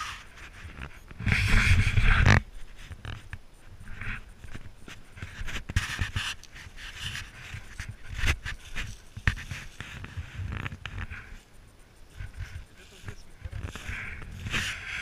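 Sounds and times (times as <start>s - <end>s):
movement over dry leaves: 0.0s - 15.0s.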